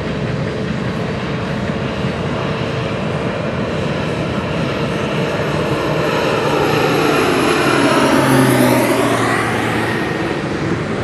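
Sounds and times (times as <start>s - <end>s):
airplane engine and propeller drone: 0.0s - 11.0s
freight train rumbling: 0.0s - 11.0s.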